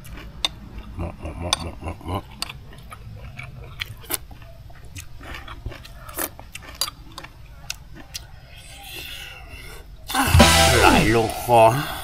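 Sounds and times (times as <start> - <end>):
chewing: 0.0 - 10.1.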